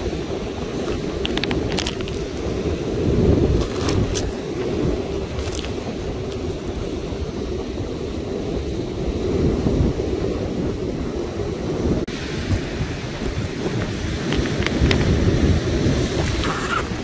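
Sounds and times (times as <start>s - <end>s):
surf on pebble beach: 0.0s - 17.0s
wind buffeting microphone: 0.0s - 17.0s.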